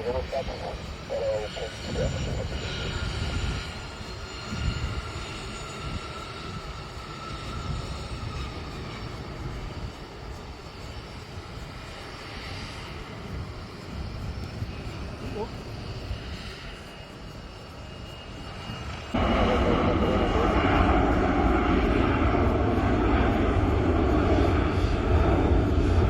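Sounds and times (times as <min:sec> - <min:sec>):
jet engine rumble: 0:00.0 - 0:26.0
jet engine whine: 0:00.0 - 0:26.0.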